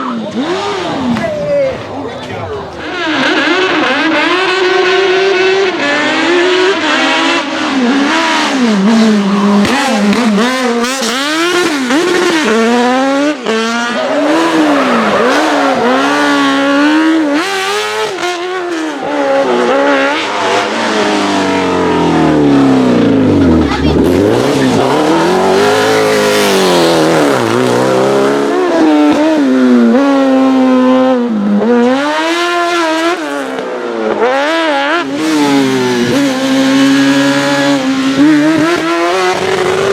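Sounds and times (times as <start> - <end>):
racing car engine revving: 0.0 - 39.9.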